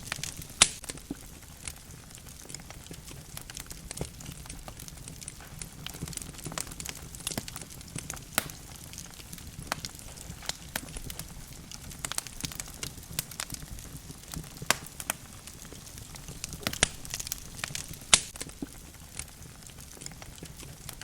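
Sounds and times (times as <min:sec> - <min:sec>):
logs crackling in fireplace: 0:00.0 - 0:21.0.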